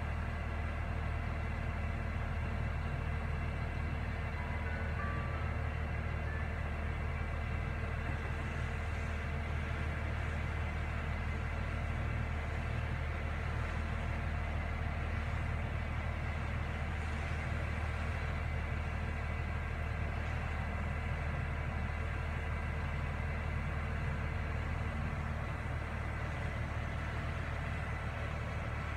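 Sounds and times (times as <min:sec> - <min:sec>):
crane diesel engine droning: 0:00.0 - 0:28.9.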